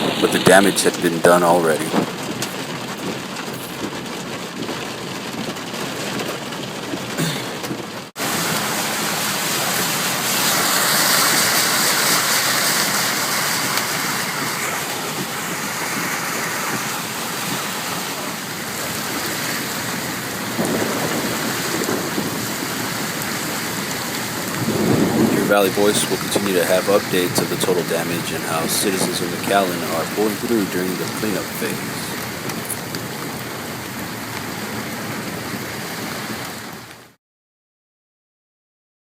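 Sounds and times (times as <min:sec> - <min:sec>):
heavy rain pouring: 0:00.0 - 0:37.1.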